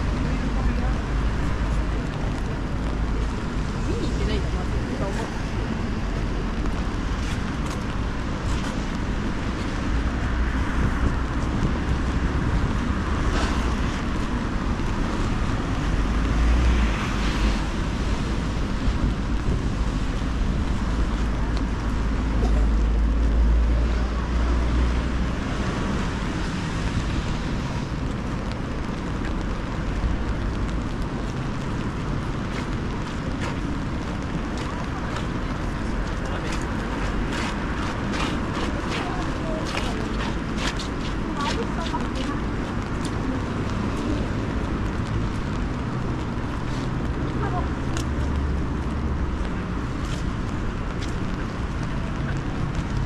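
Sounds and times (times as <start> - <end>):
tyres hissing on wet road: 0.0 - 53.0
wind rumble on microphone: 0.0 - 53.0.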